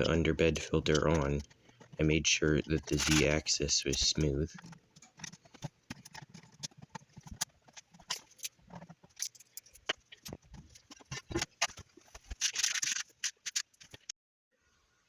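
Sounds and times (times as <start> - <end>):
rasping scrape: 0.0 - 14.1
tools clicking and knocking: 0.0 - 14.1.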